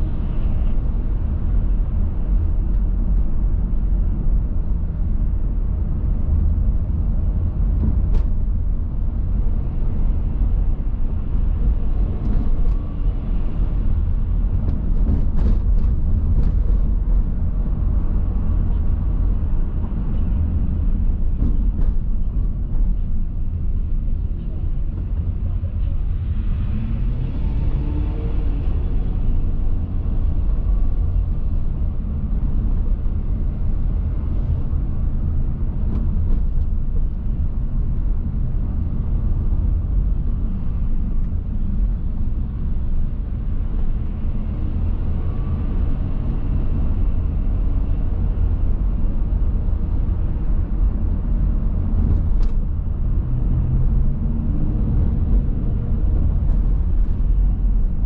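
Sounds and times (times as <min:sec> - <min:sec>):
car driving low rumble: 0:00.0 - 0:58.0.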